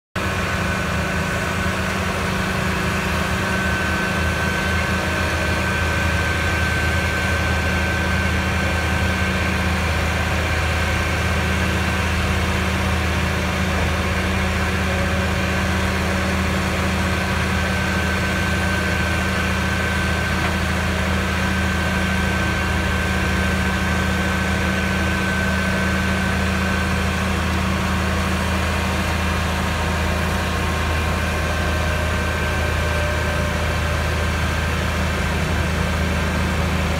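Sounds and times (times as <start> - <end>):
diesel engine running: 0.2 - 36.9.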